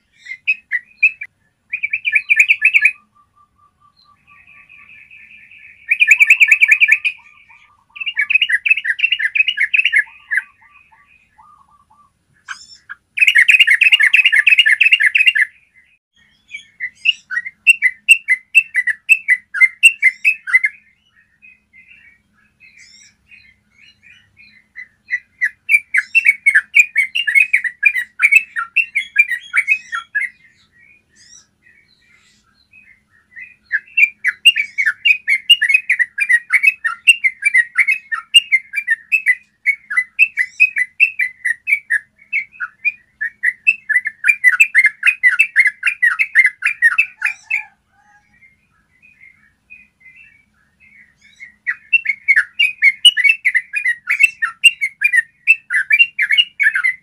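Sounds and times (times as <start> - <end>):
bird singing rapid runs: 0.0 - 57.0.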